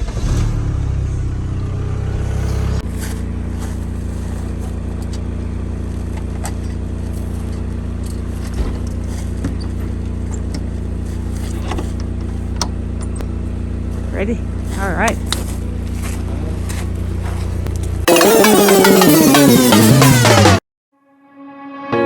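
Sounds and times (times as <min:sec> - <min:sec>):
car engine revving then idling: 0:00.0 - 0:20.6.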